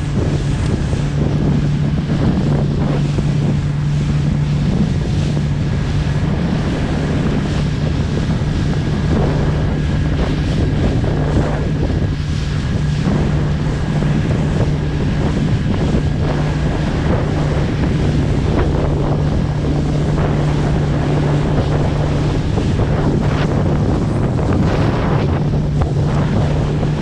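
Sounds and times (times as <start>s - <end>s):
boat engine running: 0.0s - 27.0s
waves splashing against boat: 0.0s - 27.0s
wind buffeting microphone: 0.0s - 27.0s.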